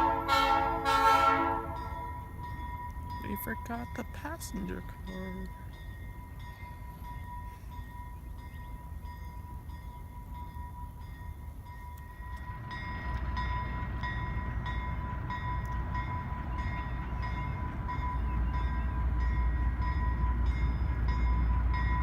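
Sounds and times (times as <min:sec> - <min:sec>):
locomotive bell ringing: 0:00.0 - 0:22.0
locomotive engine rumble: 0:00.0 - 0:22.0.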